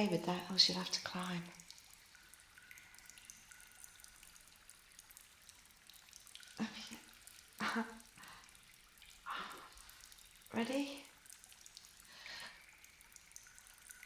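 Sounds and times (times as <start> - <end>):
water dripping and trickling: 0.0 - 14.0.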